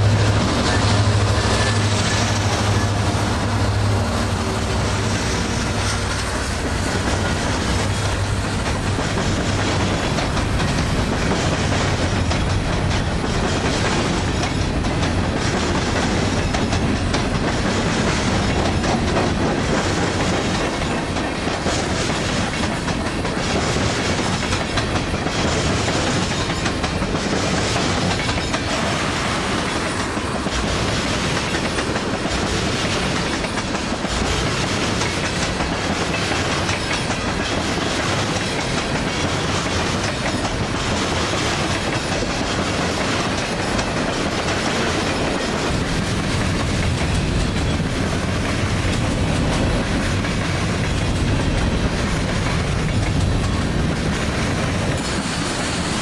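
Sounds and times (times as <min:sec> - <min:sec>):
diesel locomotive drone: 0:00.0 - 0:56.0
train wheels clacking over rail joints: 0:00.0 - 0:56.0.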